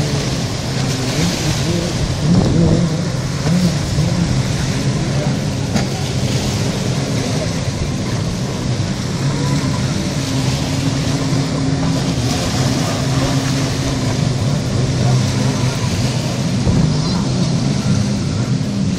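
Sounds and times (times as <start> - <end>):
jet ski engine revving: 0.0 - 18.9.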